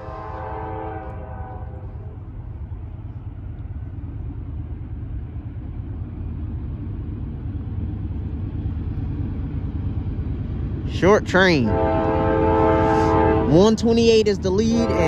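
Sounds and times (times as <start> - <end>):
locomotive rumble: 0.0 - 15.0.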